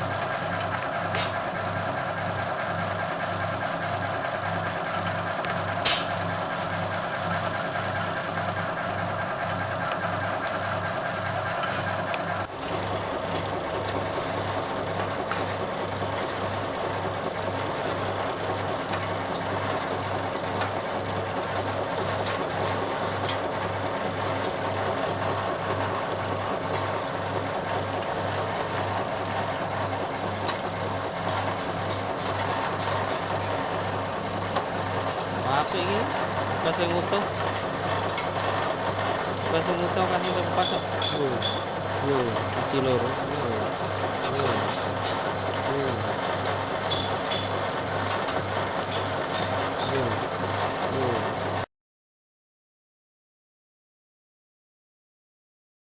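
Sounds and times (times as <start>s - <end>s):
peeling machine running: 0.0s - 51.7s.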